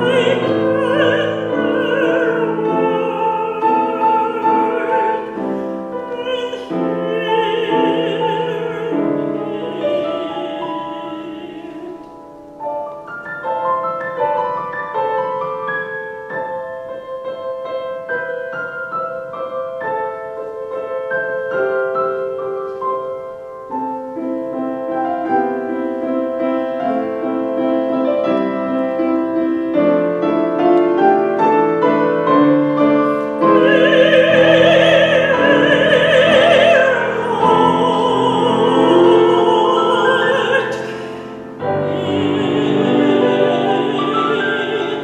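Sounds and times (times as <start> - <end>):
grand piano playing: 0.0 - 45.0
soprano singing with vibrato: 0.0 - 45.0.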